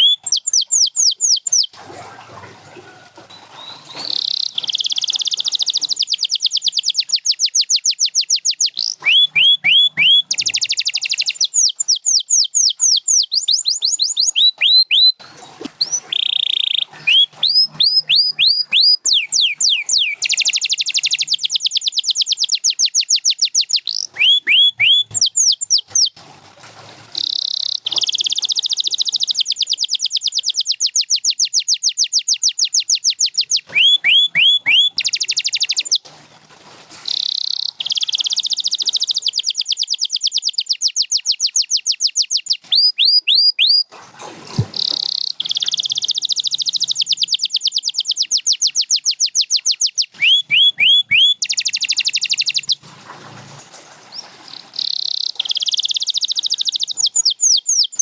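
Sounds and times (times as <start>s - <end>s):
canary singing trills: 0.0s - 2.1s, 2.9s - 26.2s, 27.2s - 36.0s, 37.1s - 43.9s, 44.6s - 52.8s, 54.1s - 58.0s.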